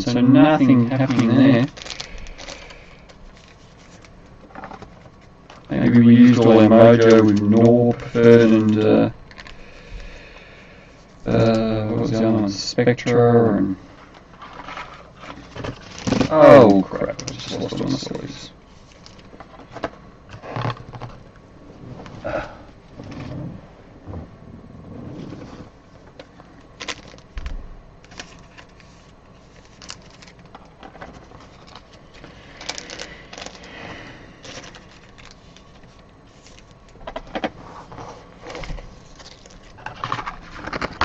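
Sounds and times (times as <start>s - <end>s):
cards and sleeves rustling: 0.0s - 10.3s, 11.0s - 21.3s, 28.0s - 41.0s.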